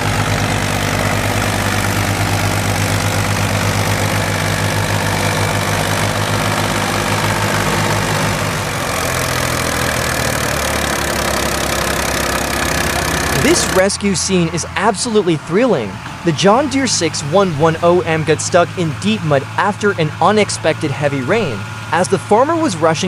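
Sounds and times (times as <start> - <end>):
tractor diesel engines running: 0.0 - 23.0.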